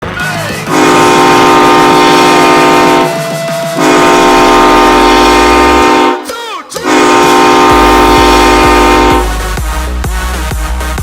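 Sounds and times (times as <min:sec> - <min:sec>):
goal horn blowing a chord: 0:00.0 - 0:11.0.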